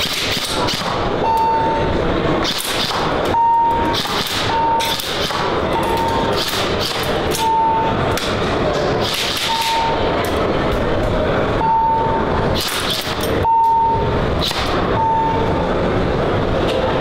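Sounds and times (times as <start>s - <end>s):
din of a busy hall: 0.0s - 17.0s.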